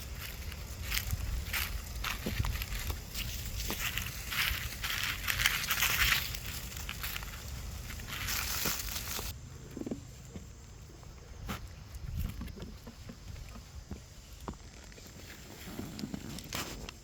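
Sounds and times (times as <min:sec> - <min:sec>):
rustling and crackling: 0:00.0 - 0:17.0.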